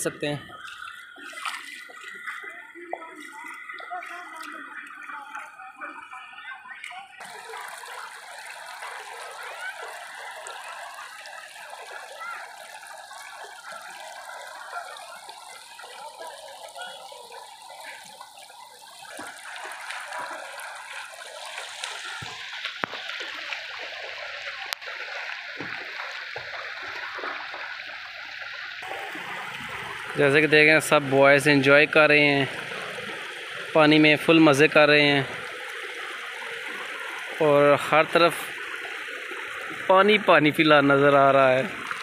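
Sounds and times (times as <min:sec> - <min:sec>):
river water over pebbles: 0:00.0 - 0:42.0.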